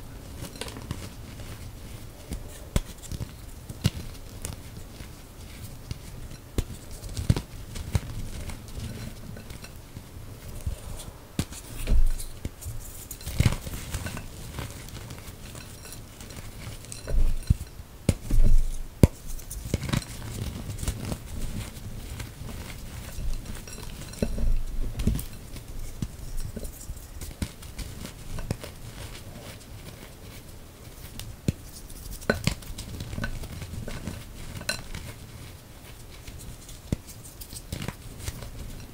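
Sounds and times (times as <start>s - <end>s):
chalk crunching and crackling: 0.0s - 38.9s.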